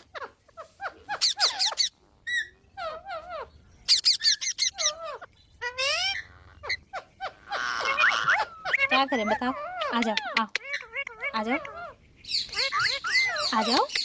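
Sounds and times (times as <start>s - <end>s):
parrot squeaky calls: 0.0s - 14.0s.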